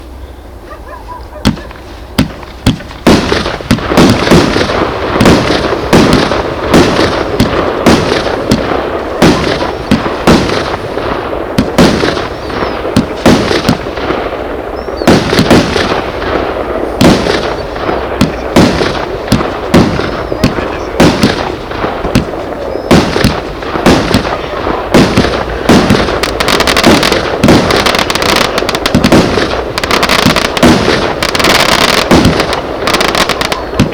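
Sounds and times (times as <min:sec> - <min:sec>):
continuous firework hiss: 0:00.0 - 0:33.9
firework shots and bursts: 0:01.4 - 0:33.9.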